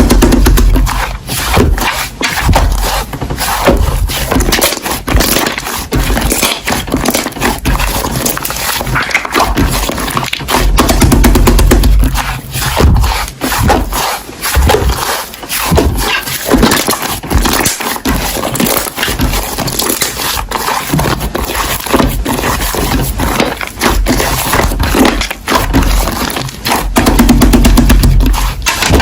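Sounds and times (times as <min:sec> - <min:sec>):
slime squelching and popping: 0:00.0 - 0:29.0.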